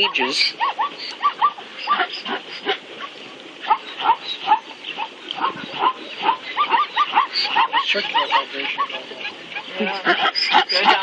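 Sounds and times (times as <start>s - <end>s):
zebras barking: 0.0s - 11.0s.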